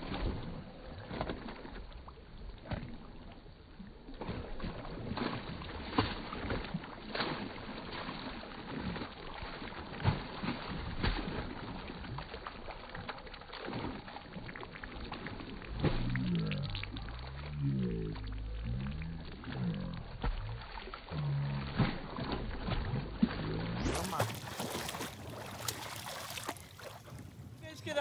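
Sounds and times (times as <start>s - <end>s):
water splashing from kicking: 0.0s - 28.0s.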